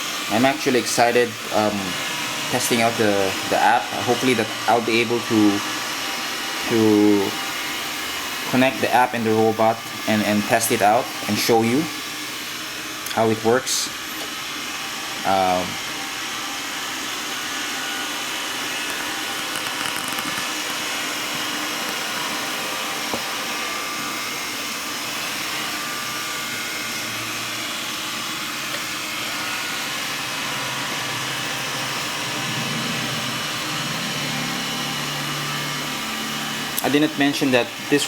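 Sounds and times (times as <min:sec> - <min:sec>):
robot vacuum whirring: 0:00.0 - 0:38.0.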